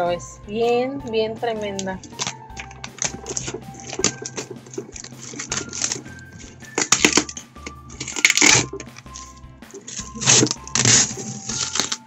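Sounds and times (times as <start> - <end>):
plastic bag crinkling: 2.0 - 12.0.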